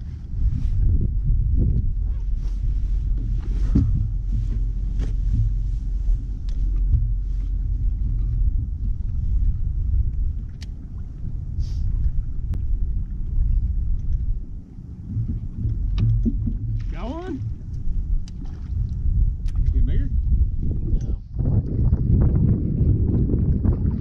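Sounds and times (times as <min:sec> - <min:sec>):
boat low rumble: 0:00.0 - 0:24.0.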